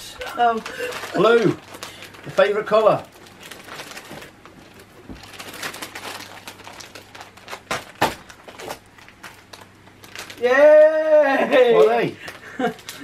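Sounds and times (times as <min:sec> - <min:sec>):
sharp plastic crack: 0:00.0 - 0:10.5
plastic packaging crinkling: 0:00.0 - 0:13.0.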